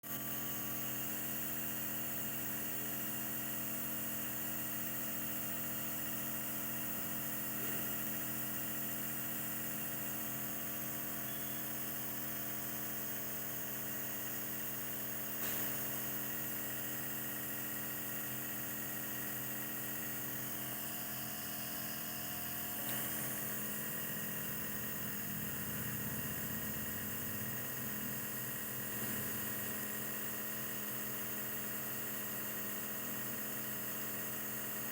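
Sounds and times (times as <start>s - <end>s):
nebulizer motor hum: 0.1s - 34.9s.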